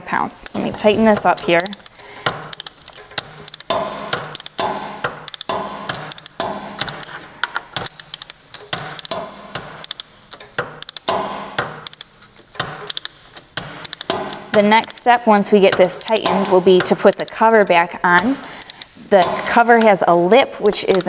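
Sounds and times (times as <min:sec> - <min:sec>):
torque wrench ratchet clicking: 0:00.5 - 0:07.2, 0:07.8 - 0:19.9.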